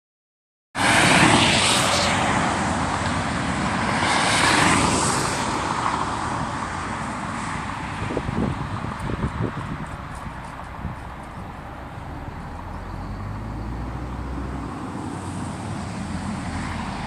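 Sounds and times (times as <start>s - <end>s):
trucks driving past: 0.8s - 17.0s.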